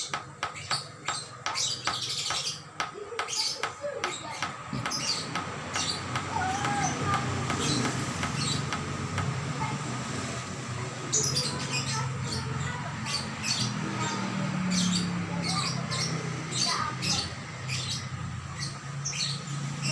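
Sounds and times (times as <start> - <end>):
songbirds chirping: 0.0 - 9.3, 11.0 - 19.9.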